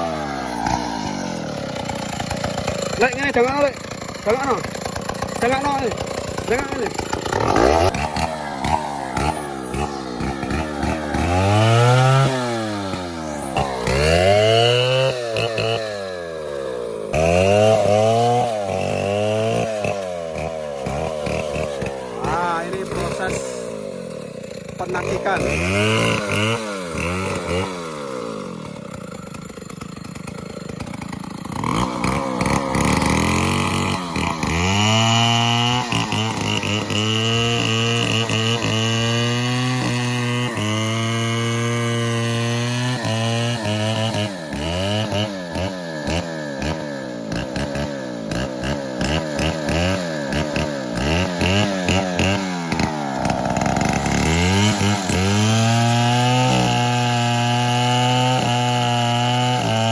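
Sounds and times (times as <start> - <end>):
chainsaw revving and cutting wood: 0.0 - 59.9.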